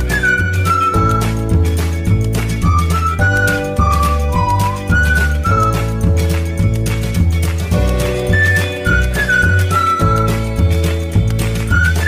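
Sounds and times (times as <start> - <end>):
melody over bass and beat: 0.0 - 12.0.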